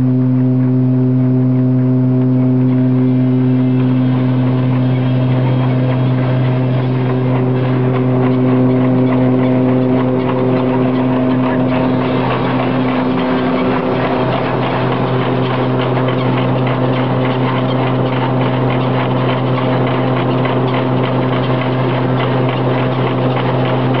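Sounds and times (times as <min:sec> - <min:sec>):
threshing machine hum: 0:00.0 - 0:24.0.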